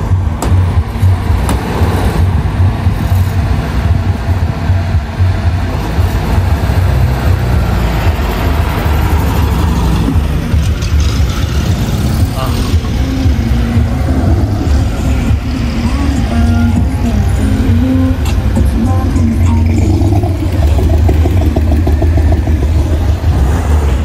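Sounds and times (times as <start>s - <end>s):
car engines low rumble: 0.0s - 24.0s.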